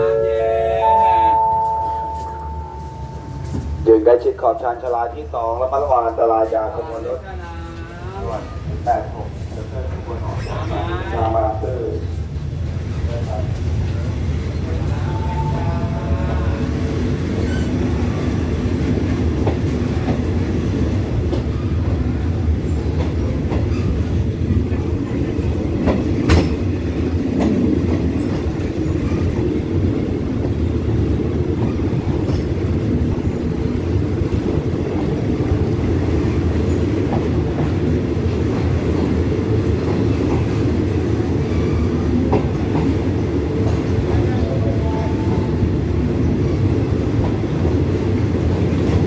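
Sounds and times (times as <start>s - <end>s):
train wheels rumbling on track: 0.0s - 49.0s.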